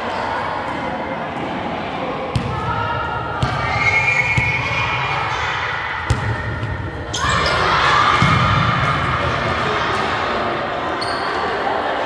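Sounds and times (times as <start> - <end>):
players shouting: 2.2 - 12.0.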